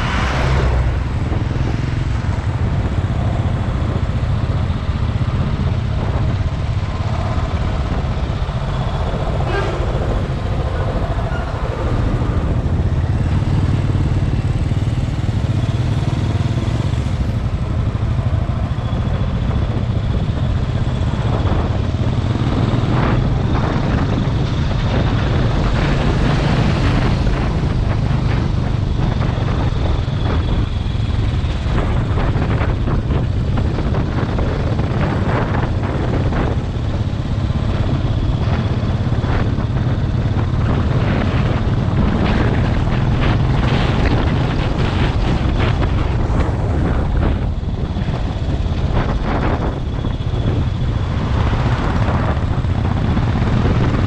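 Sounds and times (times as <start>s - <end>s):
motorcycle engine rumble: 0.0s - 54.0s
rushing noise: 0.0s - 54.0s.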